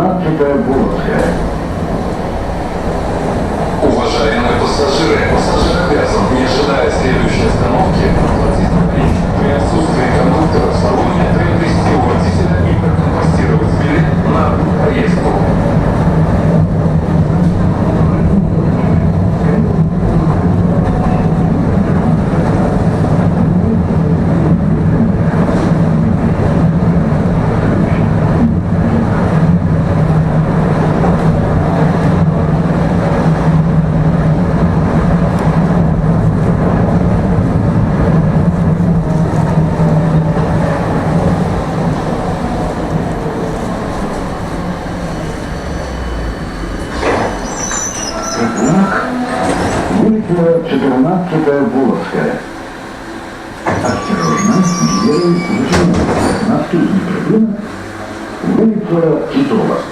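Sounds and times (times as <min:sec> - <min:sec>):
tram motors and wheels humming: 0:00.0 - 0:59.9.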